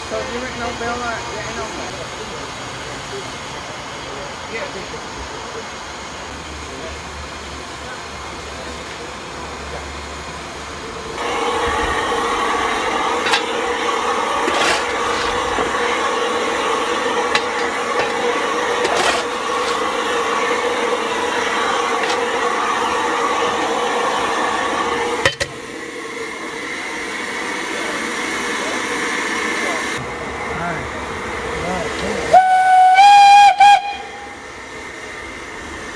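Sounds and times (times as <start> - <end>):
rush of firebox fire: 0.0 - 35.9.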